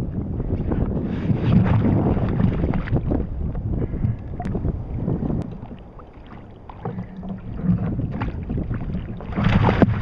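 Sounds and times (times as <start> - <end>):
low rumble: 0.0 - 10.0
wind buffeting microphone: 0.0 - 10.0
water splashing against plastic hull: 1.2 - 4.6, 5.3 - 10.0.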